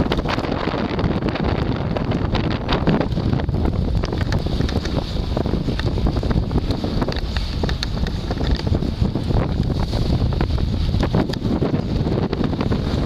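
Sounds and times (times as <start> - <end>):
boat rushing through water: 0.0 - 13.0
wind buffeting microphone: 0.0 - 13.0.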